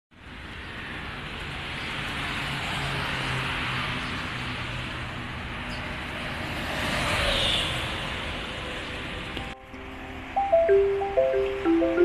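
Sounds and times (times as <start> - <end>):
tyre and wind road noise: 0.2 - 12.0.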